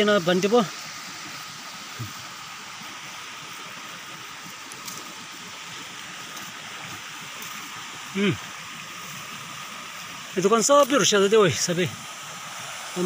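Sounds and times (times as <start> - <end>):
flowing river water: 0.0 - 13.0.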